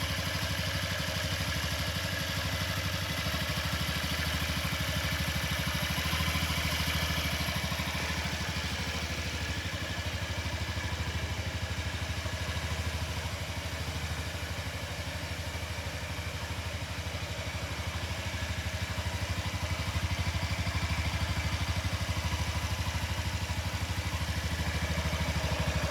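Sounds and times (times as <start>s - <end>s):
scooter engine idling: 0.0s - 25.9s.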